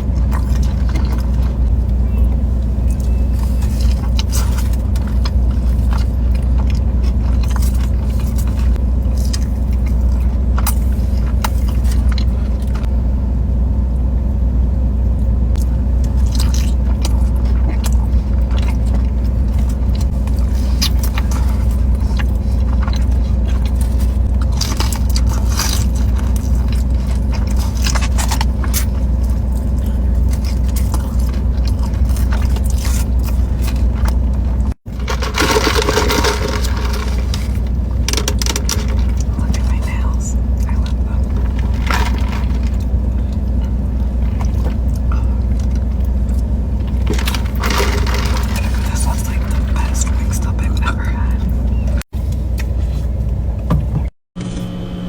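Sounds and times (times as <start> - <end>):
crunchy chewing: 0.0 - 13.0, 15.1 - 53.5
low rumble: 0.0 - 55.0.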